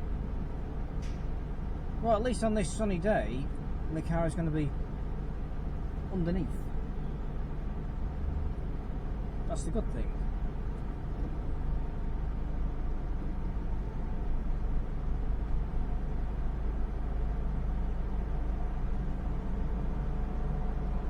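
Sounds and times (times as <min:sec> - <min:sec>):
car engine rumble: 0:00.0 - 0:21.0
faint hum: 0:00.0 - 0:21.0.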